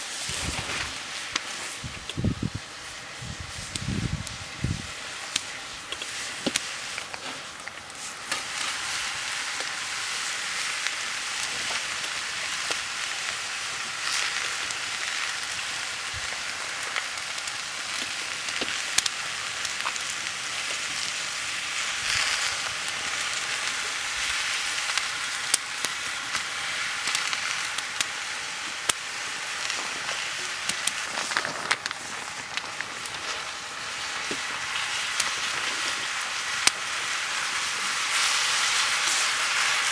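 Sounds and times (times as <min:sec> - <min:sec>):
food frying and sizzling: 0:00.0 - 0:39.9.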